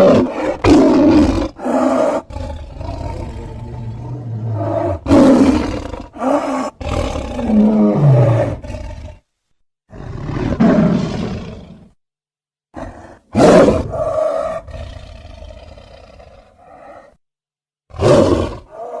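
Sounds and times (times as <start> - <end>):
big cat roars: 0.0 - 9.2, 9.9 - 12.0, 12.8 - 17.2, 17.9 - 19.0.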